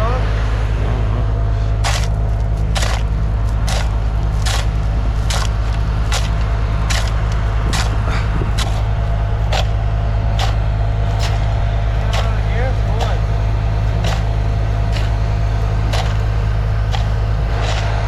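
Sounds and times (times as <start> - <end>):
loader engine idling: 0.0 - 18.0.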